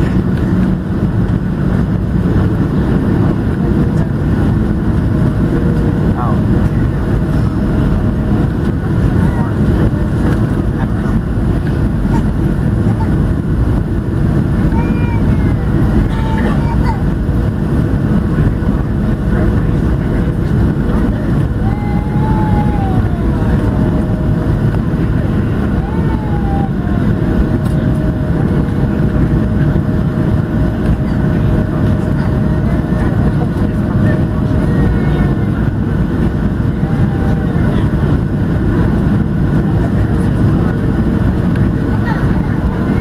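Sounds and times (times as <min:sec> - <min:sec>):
jet engines rumbling: 0:00.0 - 0:43.0
rushing air in cabin: 0:00.0 - 0:43.0.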